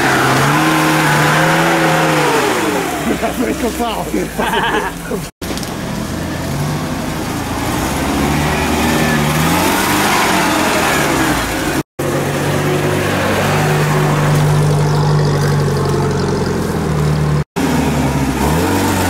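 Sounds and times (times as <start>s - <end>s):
vehicle engine under load: 0.0s - 19.0s.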